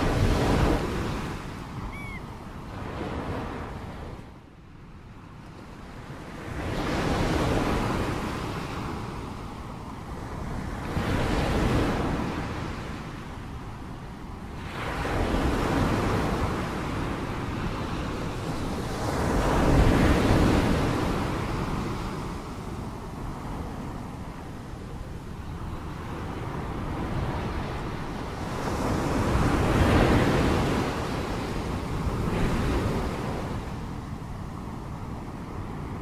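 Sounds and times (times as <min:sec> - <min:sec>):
waves breaking on beach: 0:00.0 - 0:04.2, 0:05.6 - 0:36.0.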